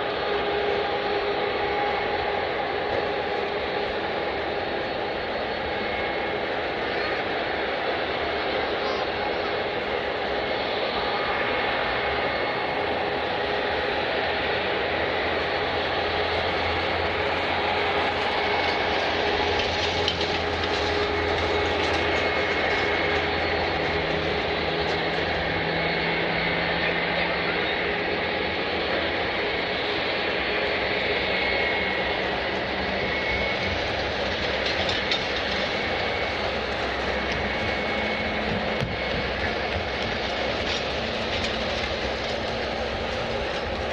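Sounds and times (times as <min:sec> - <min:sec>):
high engine whine: 0:00.0 - 0:43.9
jet engines running: 0:00.0 - 0:43.9.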